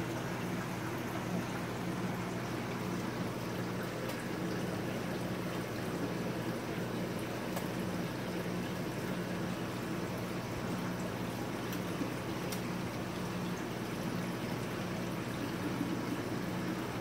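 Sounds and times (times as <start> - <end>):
low pump hum: 0.0 - 17.0
water trickling and bubbling: 0.0 - 17.0.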